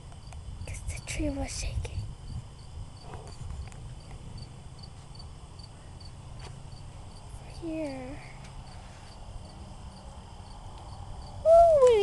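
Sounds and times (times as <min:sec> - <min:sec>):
insect chirping: 0:00.0 - 0:12.0
steady low rumble: 0:00.0 - 0:12.0.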